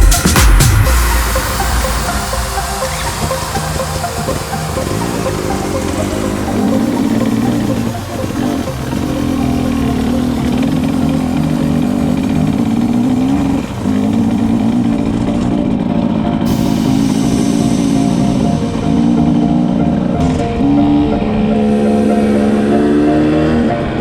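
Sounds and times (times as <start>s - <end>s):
two-stroke motorcycle engine running: 0.0s - 23.9s.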